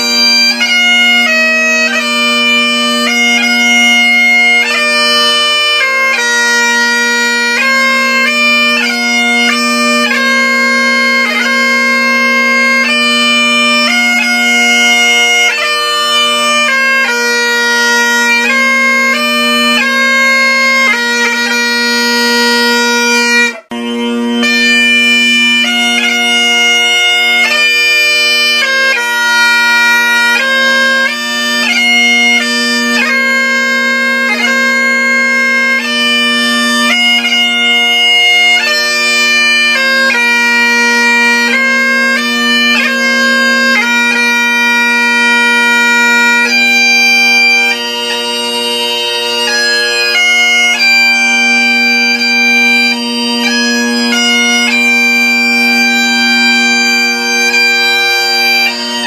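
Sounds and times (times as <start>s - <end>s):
bagpipes playing a tune: 0.0s - 59.0s.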